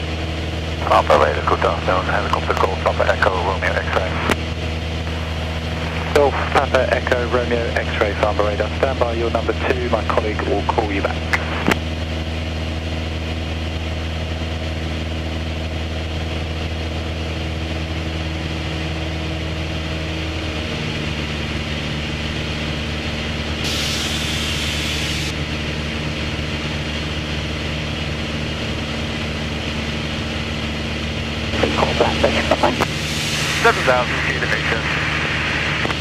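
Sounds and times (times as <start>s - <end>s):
aircraft engine and propeller: 0.0s - 36.0s.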